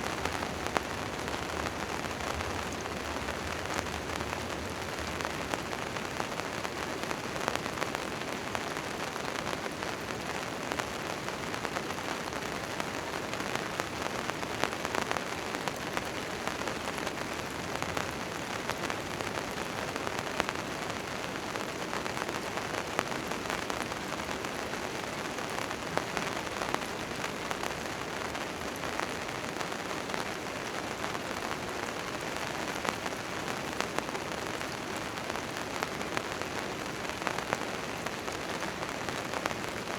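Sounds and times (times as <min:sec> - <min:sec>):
rain on a tent tarp: 0:00.0 - 0:39.9.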